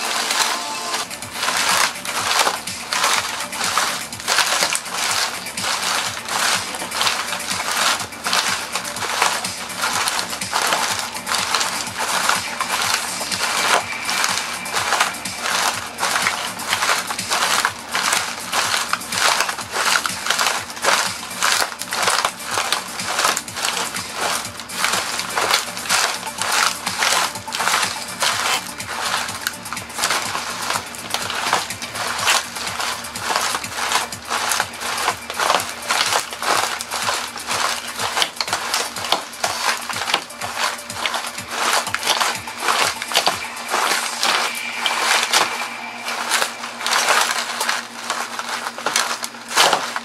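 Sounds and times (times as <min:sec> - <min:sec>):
plastic bag crinkling: 0:00.0 - 0:50.0
plastic toy cracking and crunching: 0:00.0 - 0:50.0.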